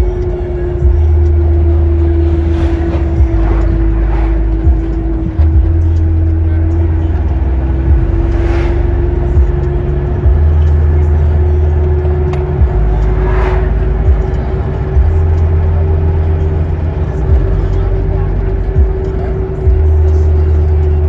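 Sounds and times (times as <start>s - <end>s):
car engine rumble: 0.0s - 21.0s
road noise: 0.0s - 21.0s
vehicles rushing past: 0.0s - 21.0s.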